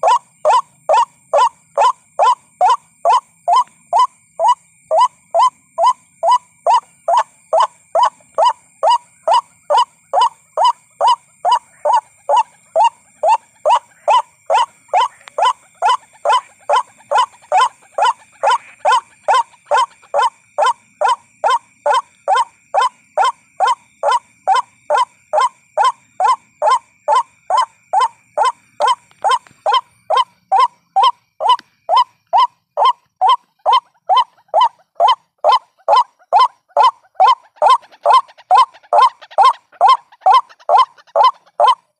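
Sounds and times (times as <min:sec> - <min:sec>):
waterhen calling: 0:00.0 - 0:41.8.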